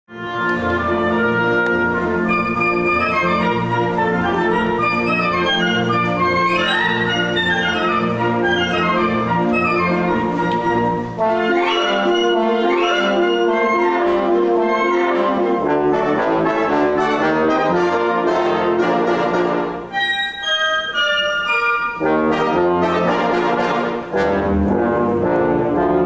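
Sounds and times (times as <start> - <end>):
orchestral music with brass: 0.1 - 26.0.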